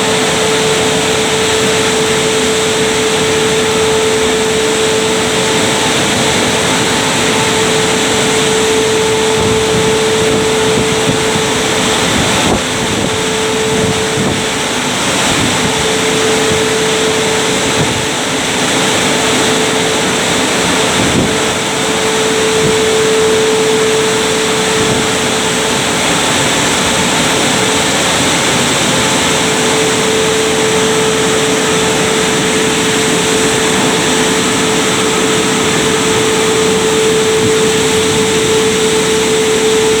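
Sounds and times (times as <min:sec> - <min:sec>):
car wash mechanical whir: 0:00.0 - 0:40.0.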